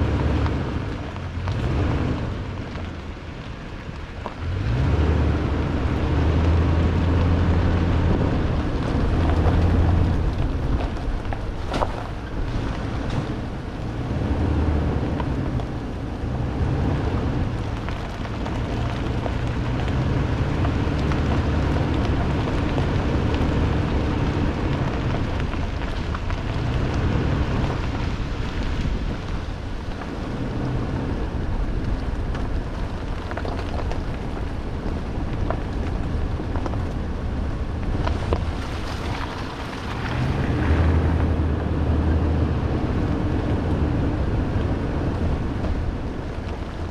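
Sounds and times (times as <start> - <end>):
noisy rumble: 0.0 - 46.9
truck engine at low revs: 0.0 - 46.9.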